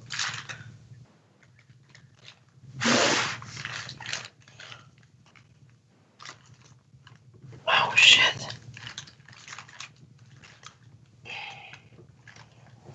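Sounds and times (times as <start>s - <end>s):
small clicks and rustles: 0.0s - 2.7s, 3.4s - 7.7s, 8.3s - 12.9s.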